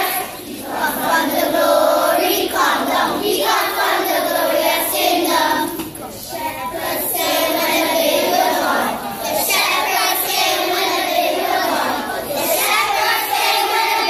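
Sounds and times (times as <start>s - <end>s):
children's choir singing a carol: 0.0s - 14.0s.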